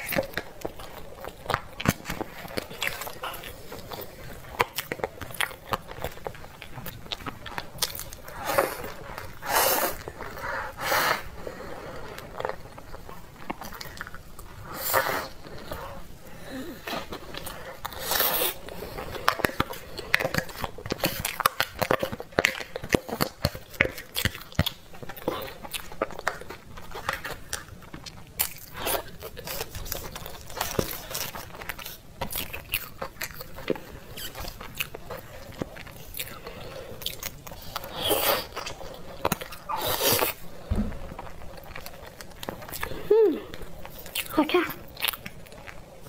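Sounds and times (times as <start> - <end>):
chewing and crunching: 0.0 - 46.0.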